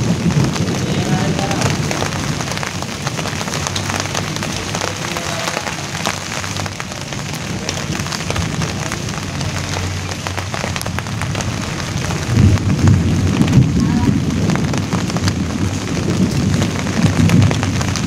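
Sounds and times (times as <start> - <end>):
low rumble: 0.0 - 18.0
rain on a large leaf: 0.0 - 18.0.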